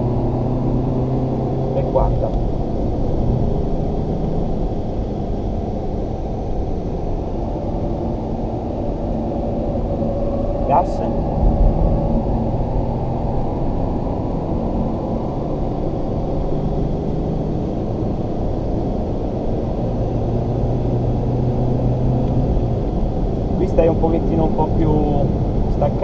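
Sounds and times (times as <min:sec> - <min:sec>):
car engine under full throttle: 0:00.0 - 0:26.0.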